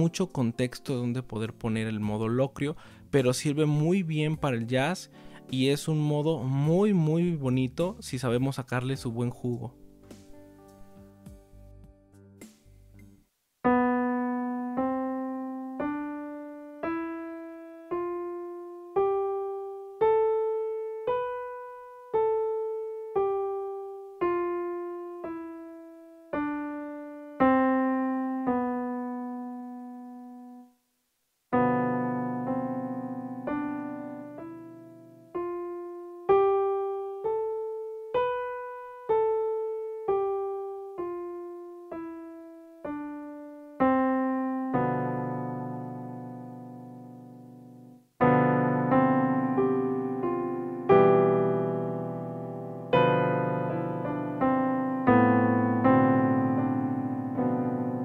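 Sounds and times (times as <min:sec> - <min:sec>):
piano playing a scale: 0:00.0 - 0:13.0, 0:13.6 - 0:30.7, 0:31.5 - 0:58.0
piano chords: 0:00.0 - 0:30.7, 0:31.5 - 0:58.0.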